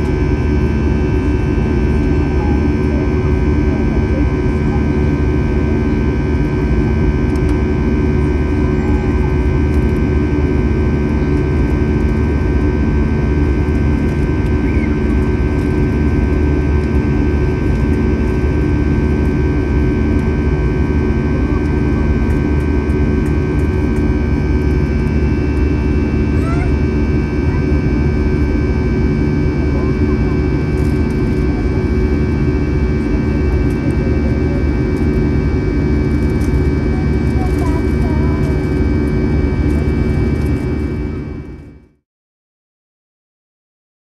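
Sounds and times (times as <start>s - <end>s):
jet engine buzzsaw drone: 0.0s - 41.6s.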